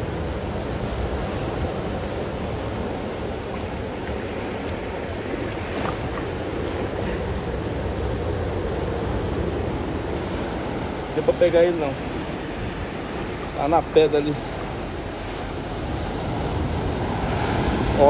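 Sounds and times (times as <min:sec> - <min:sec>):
surf washing against rocks: 0:00.0 - 0:18.0.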